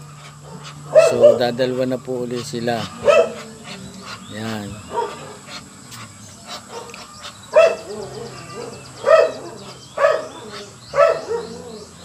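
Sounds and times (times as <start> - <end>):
animal calling loudly: 0.0 - 12.0.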